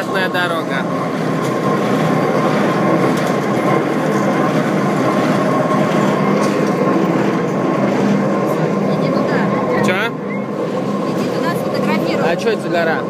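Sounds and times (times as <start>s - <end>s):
chairlift cable machinery running: 0.0s - 13.0s
constant hum: 0.0s - 13.0s.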